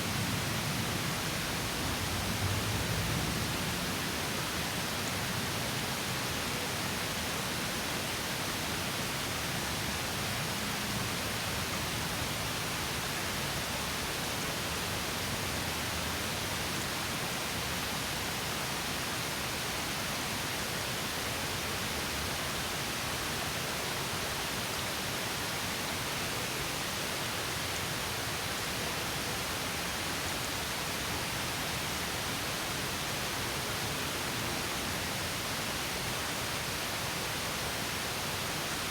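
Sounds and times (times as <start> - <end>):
small waterfall rushing: 0.0 - 38.9.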